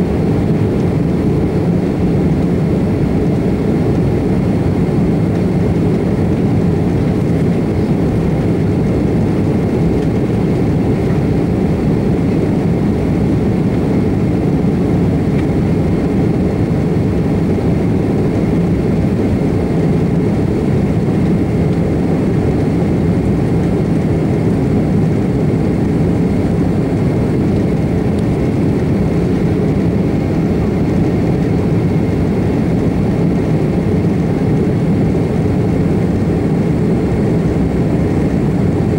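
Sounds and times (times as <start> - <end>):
faint steady engine whine: 0.0 - 38.9
jet engines deep rumble: 0.0 - 38.9.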